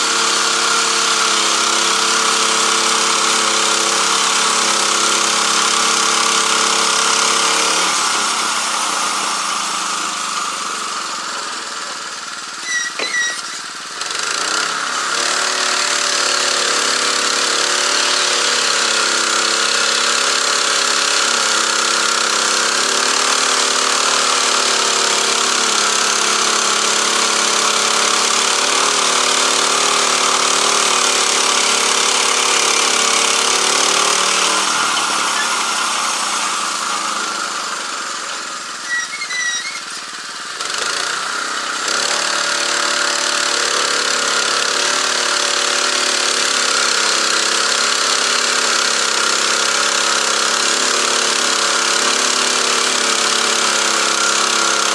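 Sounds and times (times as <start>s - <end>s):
petrol engine running sawmill: 0.0s - 54.9s.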